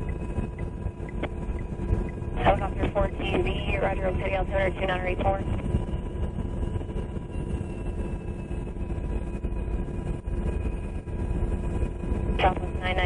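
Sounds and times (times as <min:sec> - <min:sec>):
faint whining tones: 0:00.0 - 0:13.0
helicopter engines and rotor drone: 0:00.0 - 0:13.0.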